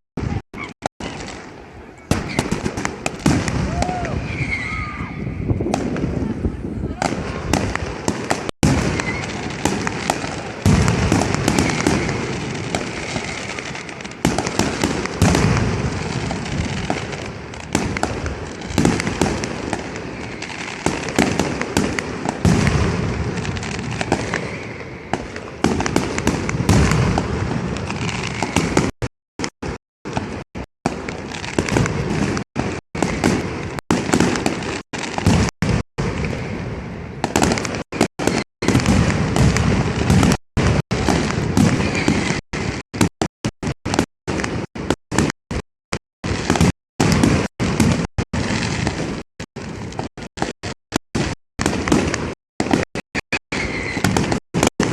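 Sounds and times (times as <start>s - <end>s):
deep firework blasts: 0.2s - 54.9s
firecrackers crackling: 0.2s - 54.9s.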